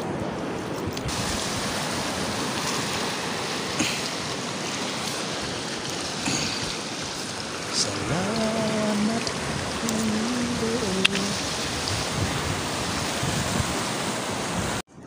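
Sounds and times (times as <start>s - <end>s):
shallow water sloshing: 0.4s - 14.5s
small water splashes: 0.6s - 14.8s.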